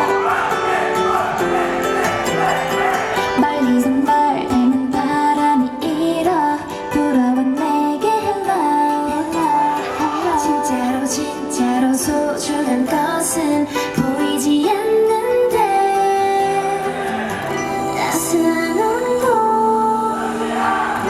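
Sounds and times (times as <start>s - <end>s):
pop song over sound system: 0.0s - 21.0s
woman singing: 3.2s - 21.0s.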